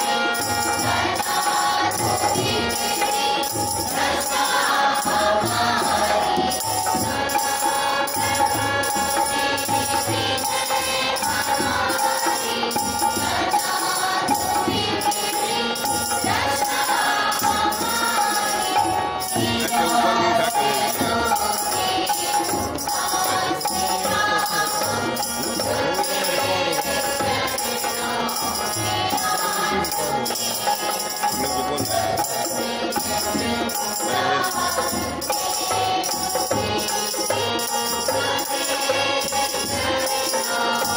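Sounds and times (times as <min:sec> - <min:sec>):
children singing a prayer song: 0:00.0 - 0:40.9
hand drums beat: 0:00.0 - 0:40.9
light high percussion: 0:00.0 - 0:40.9.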